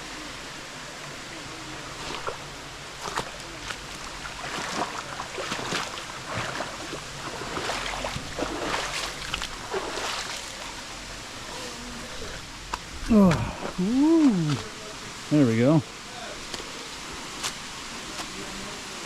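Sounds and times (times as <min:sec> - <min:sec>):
running water: 0:00.0 - 0:19.0
feet splashing in shallow stream: 0:01.8 - 0:14.8, 0:16.4 - 0:19.0.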